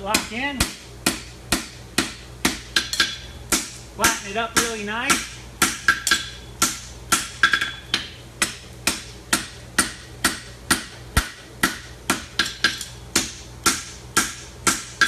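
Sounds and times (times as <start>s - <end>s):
hammer striking metal on anvil: 0.2s - 15.0s.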